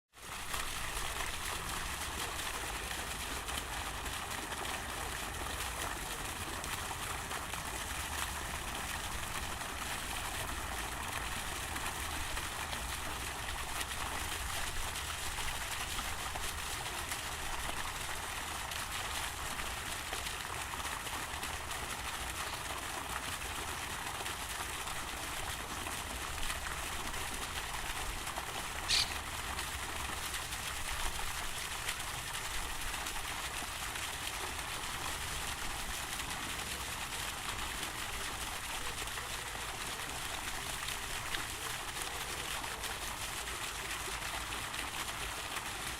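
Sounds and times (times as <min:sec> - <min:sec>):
fountain water splashing: 0:00.2 - 0:45.9.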